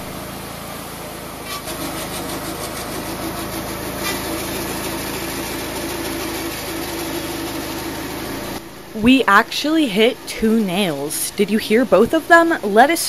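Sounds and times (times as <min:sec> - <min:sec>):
bandsaw mill cutting log: 0:00.0 - 0:12.9.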